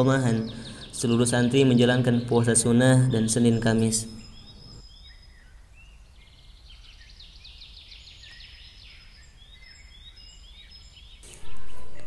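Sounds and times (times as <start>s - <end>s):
bird trill: 0.0s - 12.0s
birds chirping: 0.0s - 12.0s.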